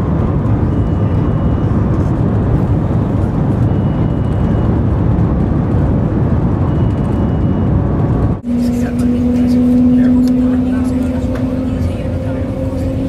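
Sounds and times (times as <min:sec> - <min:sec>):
train cabin rushing rumble: 0:00.0 - 0:13.0.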